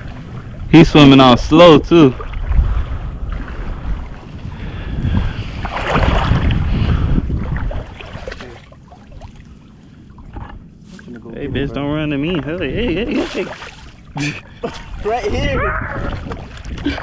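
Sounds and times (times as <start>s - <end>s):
wind rumbling on microphone: 0.0s - 9.3s, 10.0s - 17.0s
shallow water sloshing: 0.0s - 17.0s.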